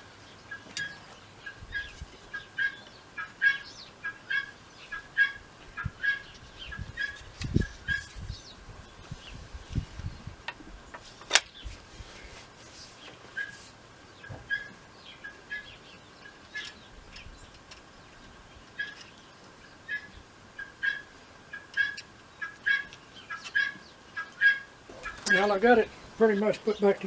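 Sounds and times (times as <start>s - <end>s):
bird chirping: 0.0s - 9.4s, 12.9s - 27.0s.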